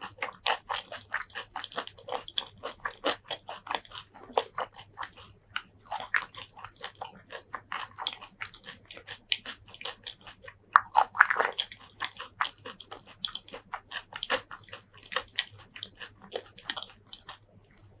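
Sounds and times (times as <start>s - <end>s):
mouth chewing food: 0.0s - 18.0s.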